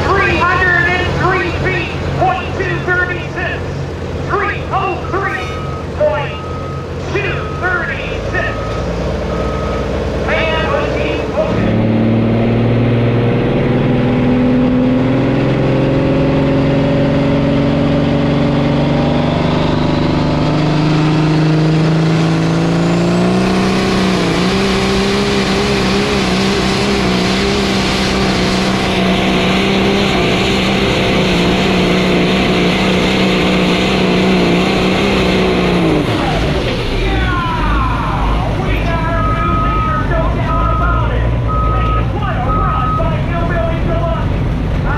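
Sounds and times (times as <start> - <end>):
diesel truck engine at full throttle: 0.0 - 44.9.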